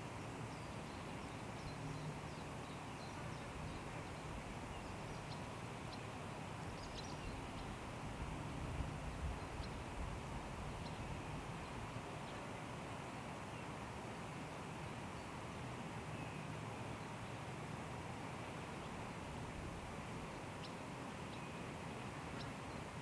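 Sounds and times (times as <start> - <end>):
wind through trees: 0.0 - 23.0.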